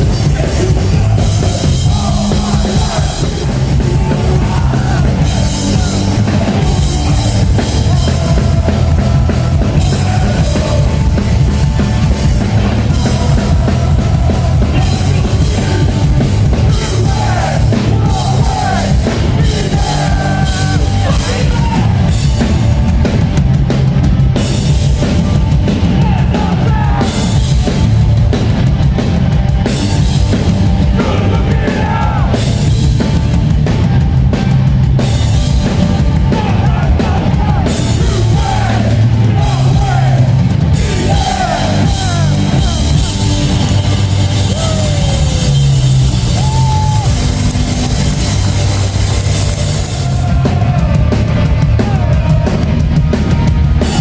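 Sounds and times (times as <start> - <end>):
drum kit: 0.0 - 54.0
live punk band playing: 0.0 - 54.0.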